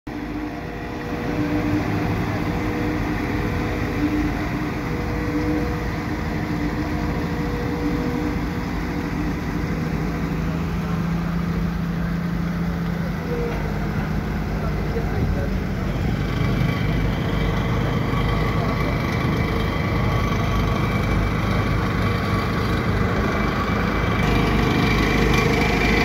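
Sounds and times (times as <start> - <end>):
road roller diesel engine: 0.1 - 26.0.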